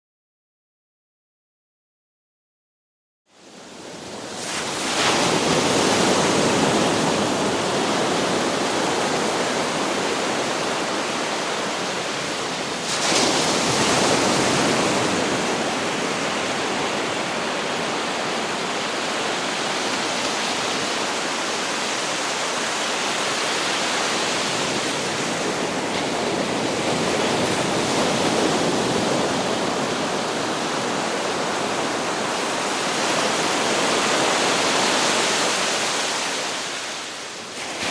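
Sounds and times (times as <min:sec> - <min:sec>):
sea waves breaking on beach: 0:03.4 - 0:37.9.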